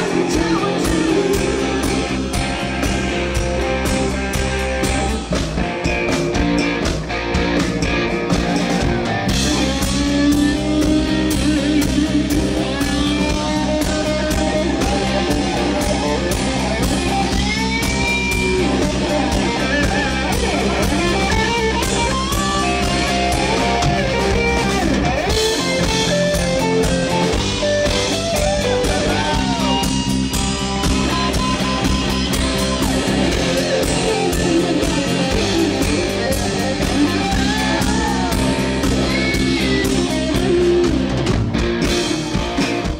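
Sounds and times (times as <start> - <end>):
electric guitar lead lines: 0.0 - 42.9
live rock band playing: 0.0 - 42.9.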